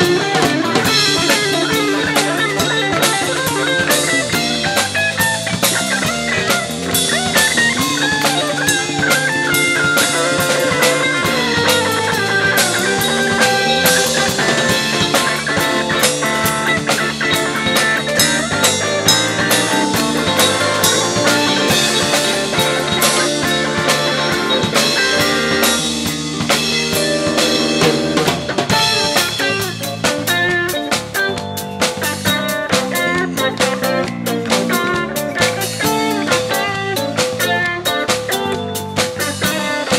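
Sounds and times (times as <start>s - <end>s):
drum kit beat with rimshots: 0.0s - 39.9s
jazz-funk band playing: 0.0s - 39.9s.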